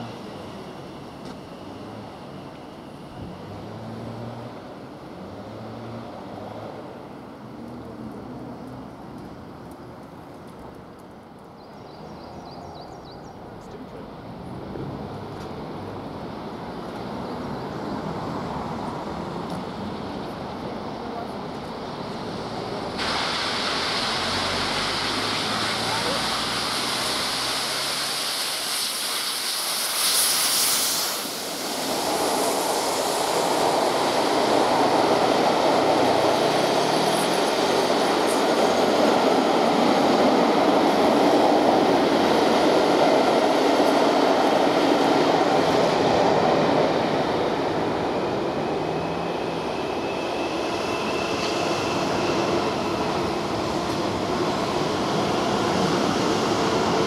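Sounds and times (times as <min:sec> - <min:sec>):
electric train faint whine: 0:00.0 - 0:57.0
steam locomotive passing: 0:00.0 - 0:57.0.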